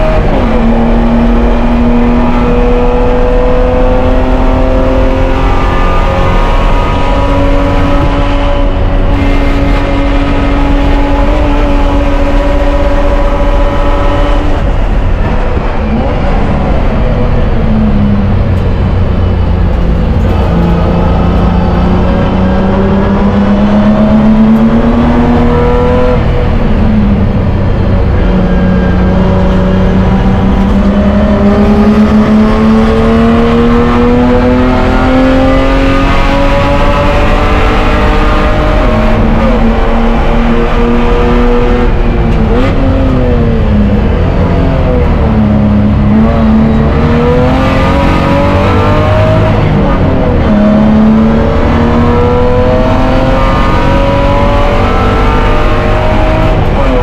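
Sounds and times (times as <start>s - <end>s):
race car engine revving: 0.0s - 57.0s
road and drivetrain rumble: 0.0s - 57.0s.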